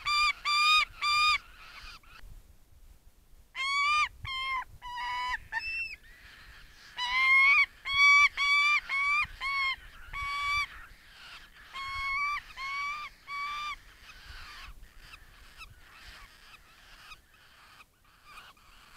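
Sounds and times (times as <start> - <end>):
falcon calling: 0.0 - 2.2, 3.6 - 18.9.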